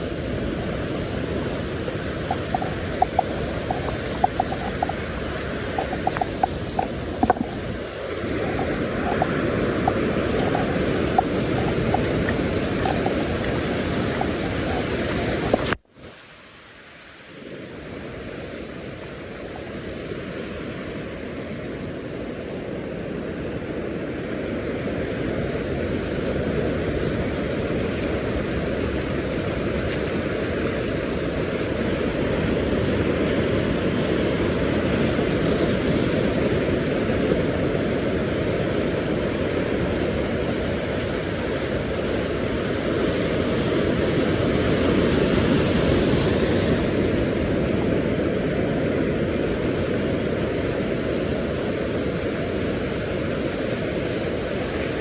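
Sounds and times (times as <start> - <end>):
surf on a beach: 0.0 - 55.0
wind: 0.0 - 55.0.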